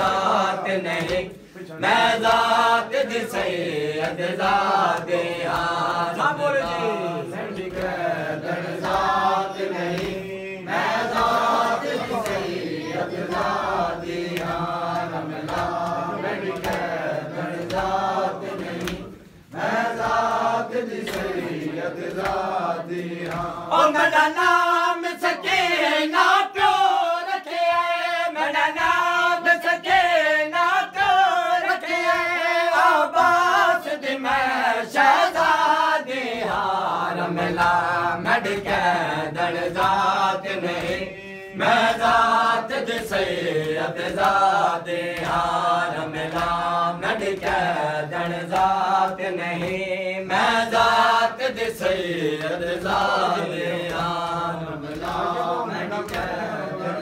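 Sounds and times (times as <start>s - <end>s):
group chanting in unison: 0.0s - 57.0s.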